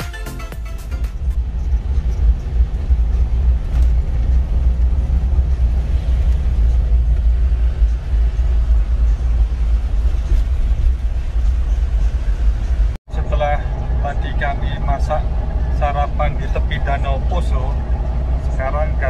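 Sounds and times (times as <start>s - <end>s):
engine and road noise rumble: 0.0s - 19.0s.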